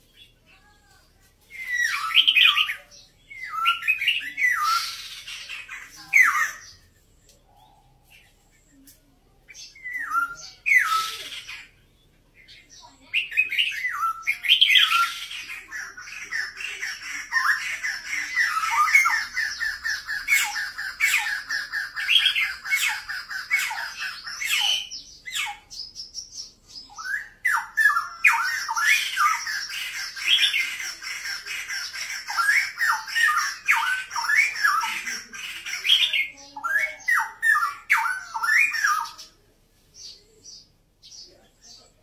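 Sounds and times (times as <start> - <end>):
bird singing: 1.4 - 42.0.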